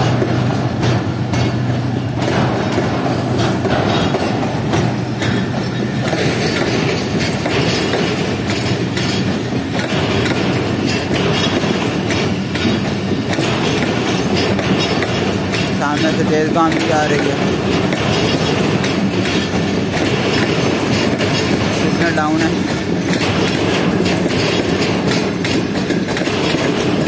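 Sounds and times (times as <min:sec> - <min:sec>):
rail joint clicks: 0:00.0 - 0:27.0
train wheels rumbling on rails: 0:00.0 - 0:27.0.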